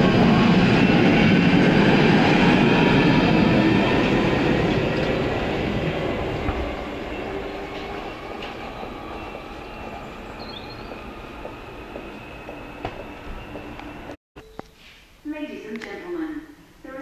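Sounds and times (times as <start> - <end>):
train rumble and wheel clatter: 0.0 - 14.2.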